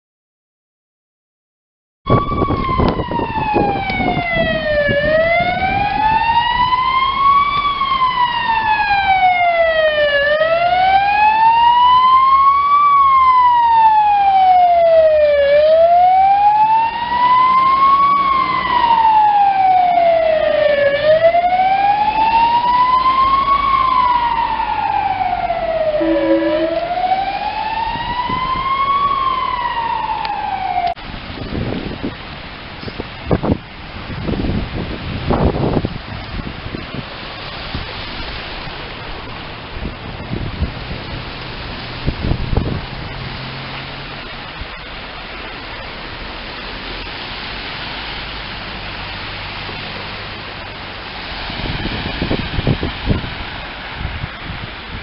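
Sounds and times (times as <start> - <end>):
emergency vehicle siren wailing: 2.1 - 31.0, 38.8 - 55.0.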